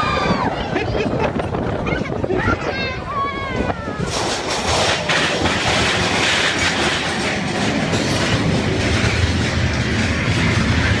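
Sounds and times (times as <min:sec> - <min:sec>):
roller coaster wheels on rail: 0:00.0 - 0:11.0.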